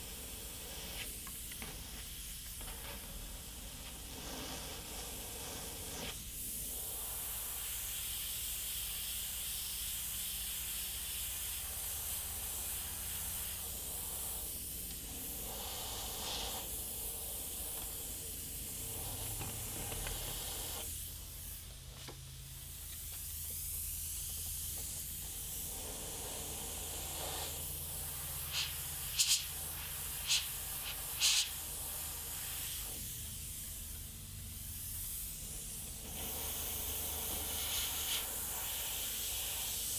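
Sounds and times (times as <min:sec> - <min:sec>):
short air spurts: 0:00.0 - 0:21.7, 0:22.9 - 0:33.9, 0:34.6 - 0:39.9
airbrush spraying hiss: 0:00.0 - 0:39.9.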